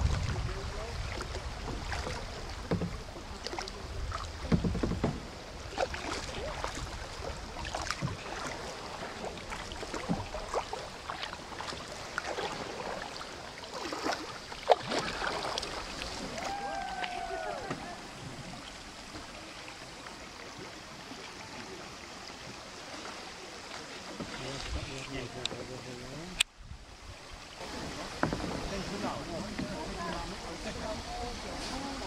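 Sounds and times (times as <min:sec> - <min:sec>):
paddle splashing and dripping: 0:00.0 - 0:32.0.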